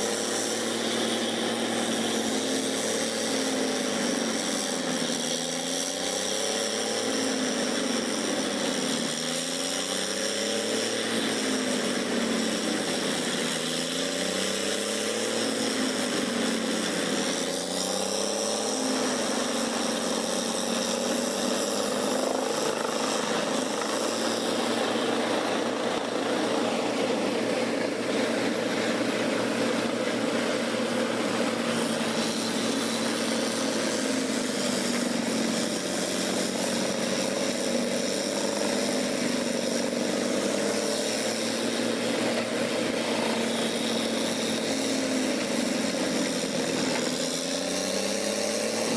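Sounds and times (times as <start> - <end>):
wood grinder diesel engine: 0.0 - 48.9.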